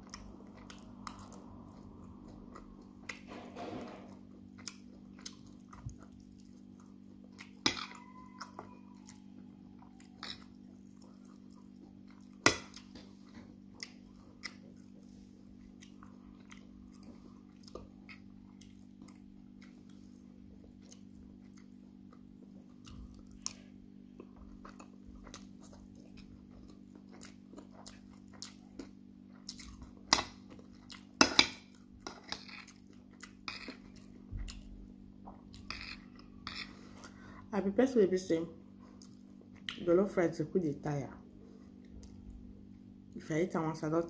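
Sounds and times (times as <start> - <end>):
chewing and mouth smacking: 0.0 - 3.2, 4.1 - 37.2, 38.7 - 39.9.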